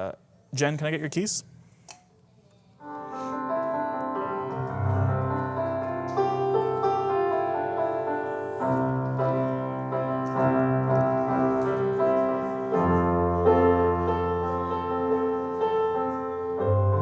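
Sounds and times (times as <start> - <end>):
sustained piano chords: 2.8 - 17.0.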